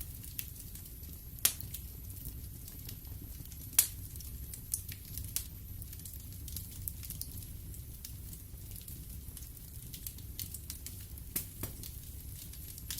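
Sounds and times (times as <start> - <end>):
burning wood crackling: 0.0 - 12.9
fire rumbling in fireplace: 0.0 - 12.9.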